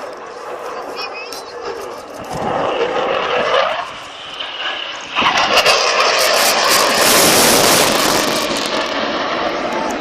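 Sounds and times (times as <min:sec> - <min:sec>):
jet engines roaring overhead: 0:00.0 - 0:10.0.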